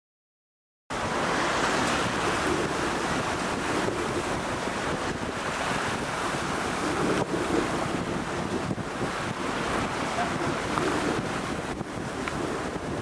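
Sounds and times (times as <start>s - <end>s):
water rushing and splashing: 0.9s - 13.0s
wind buffeting microphone: 0.9s - 13.0s.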